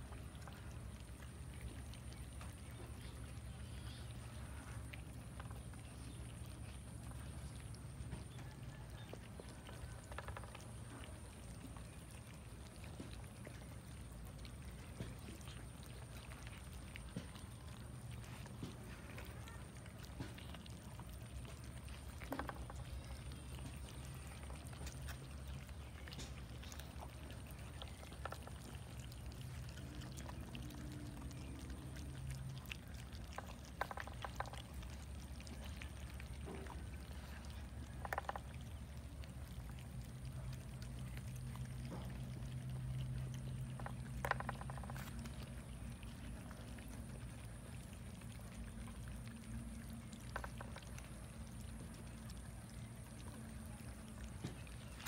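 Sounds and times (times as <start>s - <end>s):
cats chewing and smacking: 0.0s - 55.0s
low steady hum: 0.0s - 55.0s.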